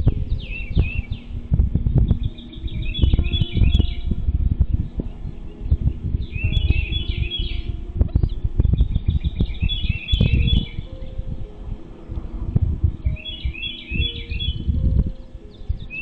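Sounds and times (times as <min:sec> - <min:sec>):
birds chirping: 0:00.0 - 0:16.0
low rumble: 0:00.0 - 0:16.0.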